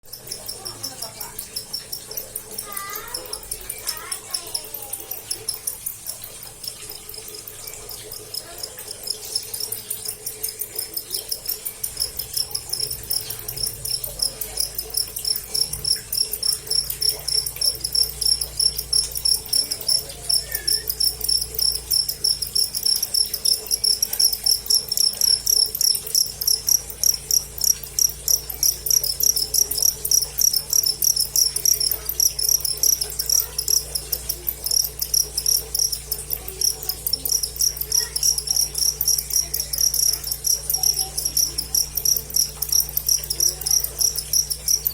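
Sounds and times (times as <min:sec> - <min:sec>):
cricket chirping: 0:00.0 - 0:44.9
faint low hum: 0:00.1 - 0:44.9.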